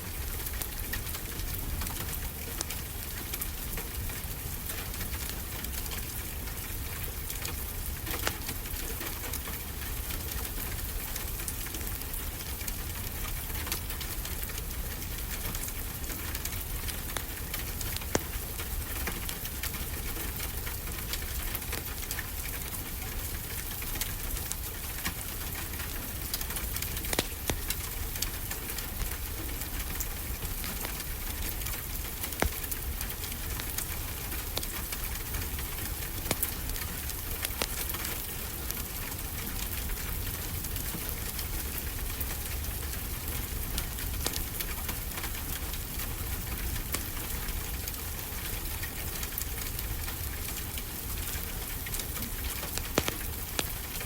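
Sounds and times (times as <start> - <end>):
wood fire crackling and popping: 0.1 - 54.0.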